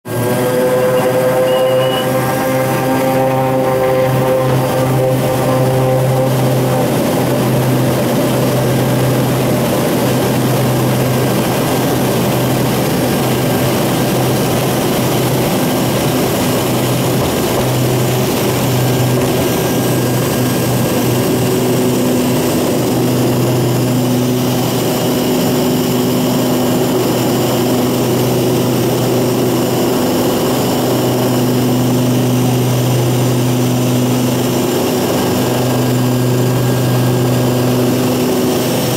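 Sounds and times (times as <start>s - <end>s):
higher engine hum: 0.1s - 38.9s
turboprop engines droning: 0.1s - 38.9s.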